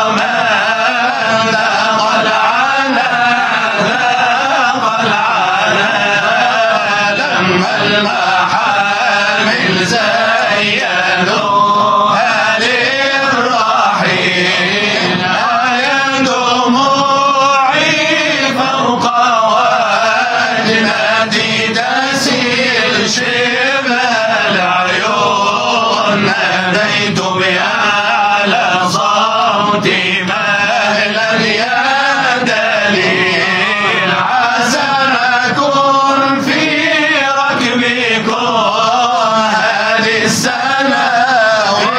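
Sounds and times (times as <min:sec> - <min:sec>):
men chanting religious song: 0:00.0 - 0:41.9.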